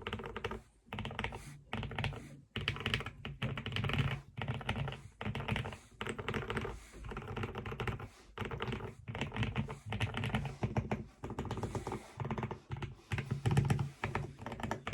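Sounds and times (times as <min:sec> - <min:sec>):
mechanical keyboard typing: 0:00.0 - 0:14.9.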